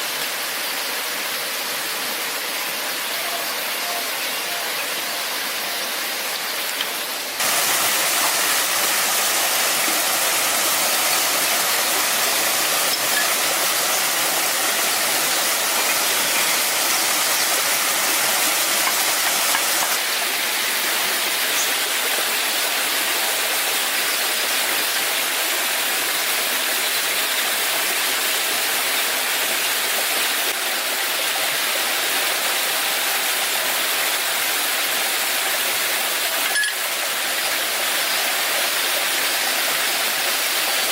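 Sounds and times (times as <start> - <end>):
water falling roar: 0.0 - 40.9.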